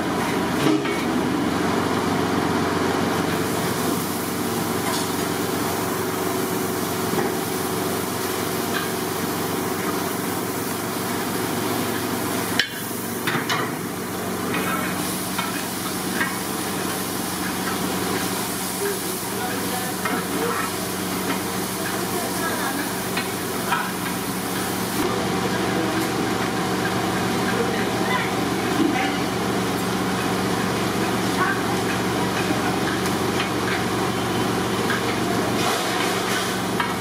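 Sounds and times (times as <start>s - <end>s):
steady background hum: 0.0s - 37.0s.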